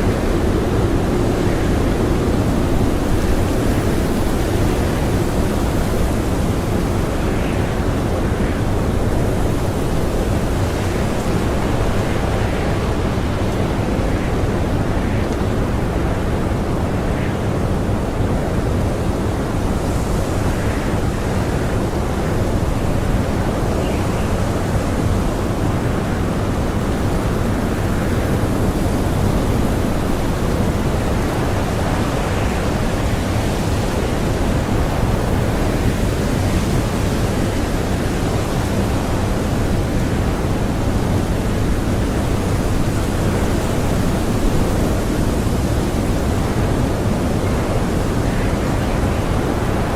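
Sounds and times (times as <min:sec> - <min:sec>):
strong wind rushing: 0:00.0 - 0:49.9.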